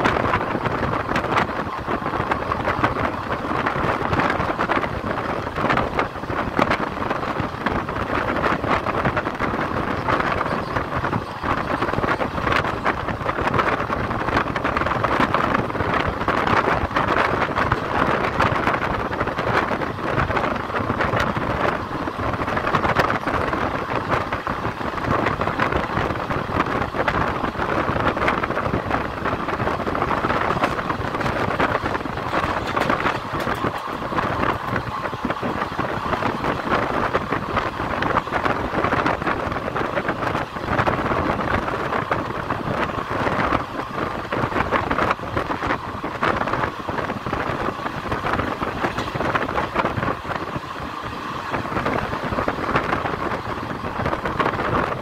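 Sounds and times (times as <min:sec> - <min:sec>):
train wheels on rails: 0:00.0 - 0:55.0
wind buffeting microphone: 0:00.0 - 0:55.0.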